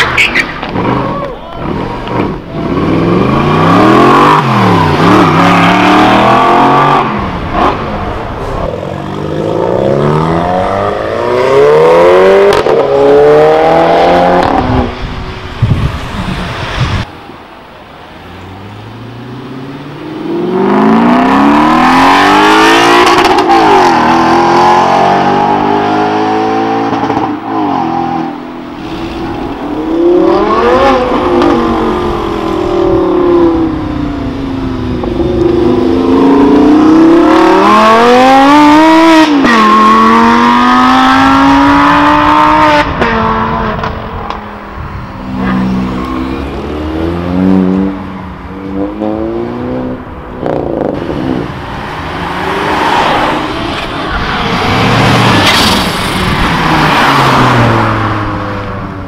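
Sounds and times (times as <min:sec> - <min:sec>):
sports car engines accelerating: 0:00.5 - 0:17.1, 0:17.9 - 0:59.0.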